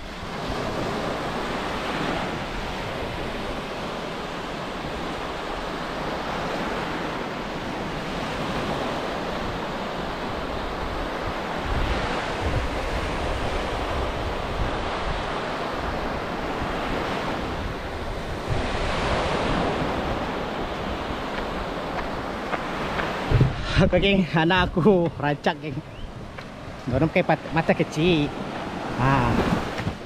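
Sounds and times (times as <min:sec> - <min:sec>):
sea surf washing onto beach: 0:00.0 - 0:30.0
wind buffeting microphone: 0:00.0 - 0:30.0.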